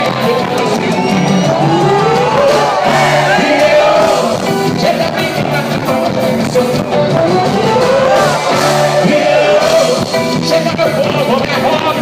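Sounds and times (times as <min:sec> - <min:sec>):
man singing: 0:00.0 - 0:01.8, 0:02.4 - 0:12.0
band playing: 0:00.0 - 0:12.0.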